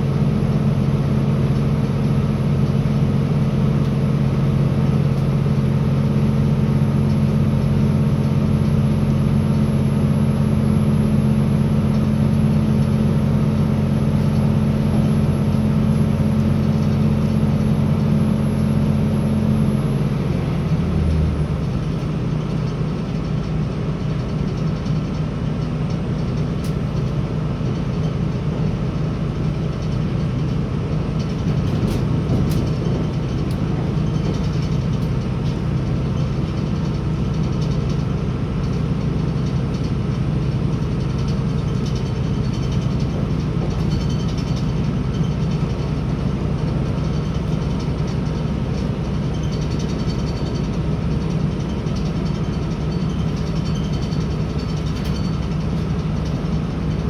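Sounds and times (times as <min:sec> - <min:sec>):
train drone in motion: 0:00.0 - 0:57.0
wheel and rail noise: 0:08.2 - 0:57.0.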